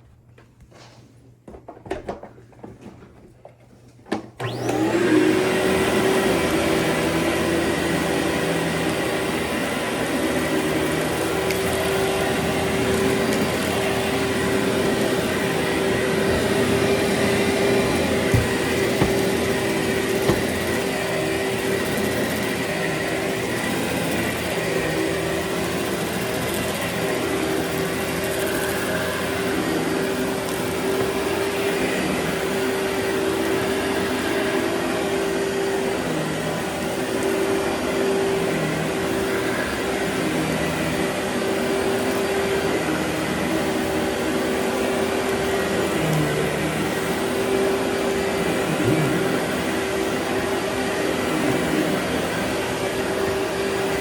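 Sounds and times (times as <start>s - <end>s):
vacuum cleaner running: 1.9s - 54.0s.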